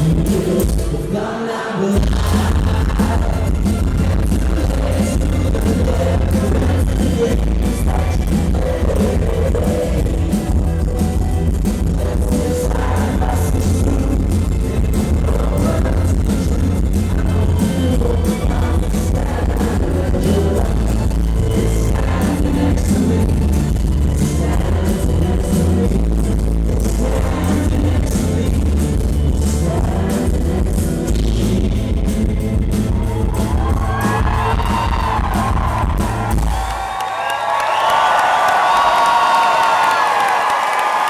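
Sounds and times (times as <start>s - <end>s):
heavy bass: 0.0s - 1.1s, 1.9s - 36.9s
drums: 0.0s - 1.2s, 1.8s - 41.0s
male voices singing together: 0.0s - 10.7s, 11.9s - 35.2s.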